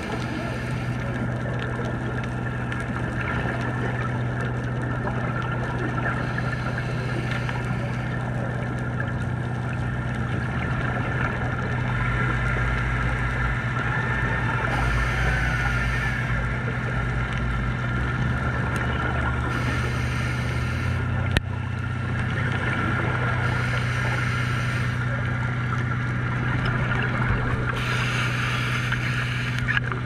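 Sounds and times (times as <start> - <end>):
boat engine hum underwater: 0.0 - 30.0
crackling hiss: 0.0 - 30.0.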